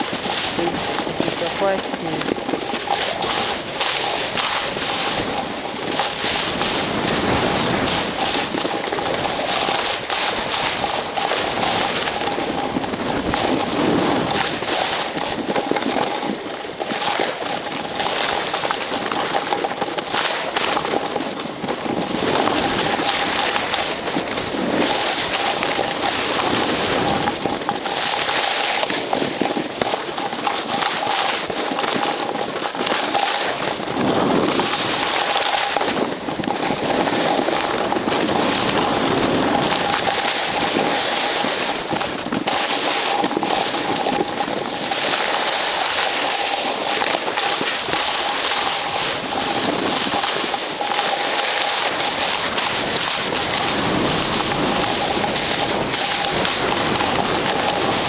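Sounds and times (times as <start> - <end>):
snow scraping under a sliding rider: 0.0 - 58.0
wind noise on microphone: 0.0 - 58.0.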